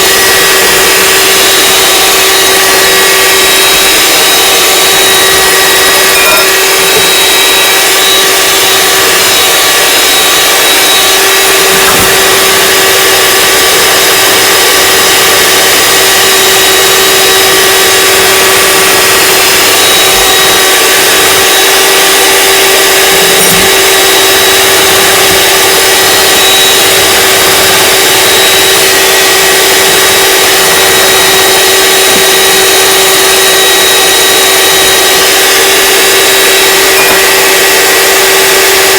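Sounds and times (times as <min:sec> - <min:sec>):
electric mixer whining: 0:00.0 - 0:38.9.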